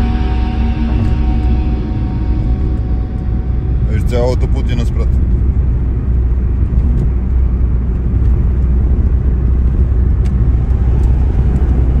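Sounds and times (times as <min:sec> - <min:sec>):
car driving at highway speed: 0:00.0 - 0:12.0.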